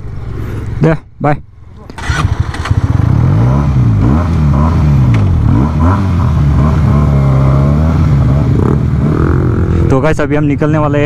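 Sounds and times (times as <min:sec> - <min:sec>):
motorcycle engine revving: 0:01.6 - 0:10.5.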